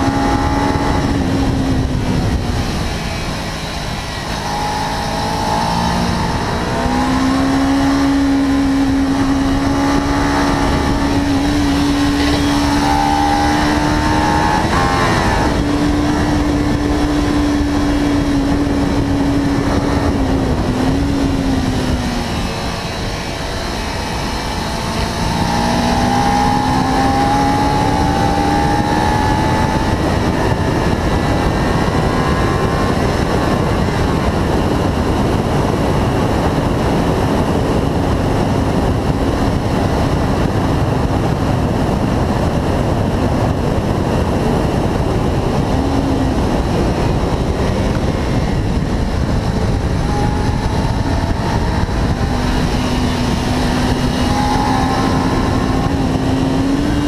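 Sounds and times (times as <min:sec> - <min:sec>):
motorcycle engine revving: 0:00.0 - 0:57.0
wind rushing over camera: 0:00.0 - 0:57.0.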